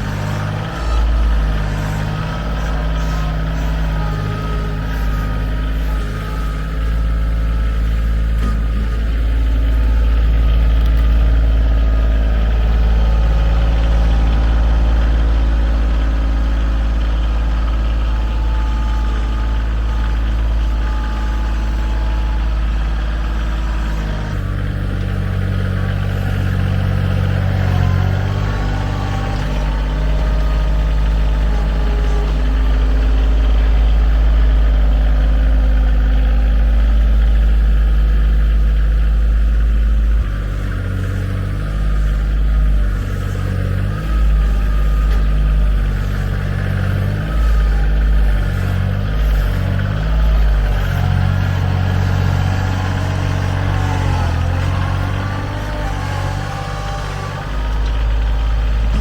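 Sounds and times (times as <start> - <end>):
heavy engine running: 0.0 - 59.0.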